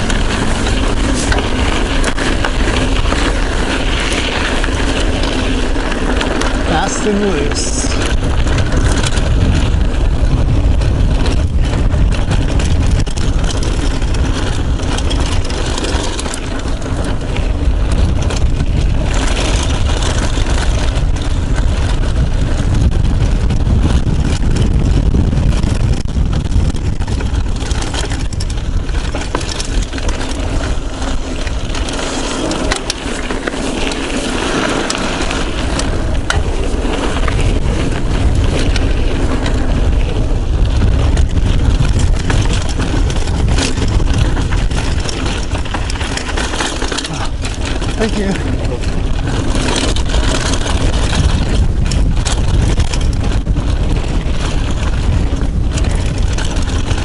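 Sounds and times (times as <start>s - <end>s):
bike clicks and rattles: 0.0s - 57.0s
tyres rolling over dirt: 0.0s - 57.0s
wind on microphone: 0.0s - 57.0s.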